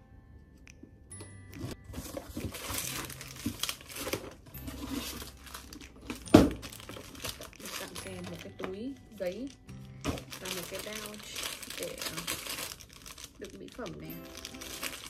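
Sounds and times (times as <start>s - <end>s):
packaging rustling and crinkling: 1.6s - 15.0s.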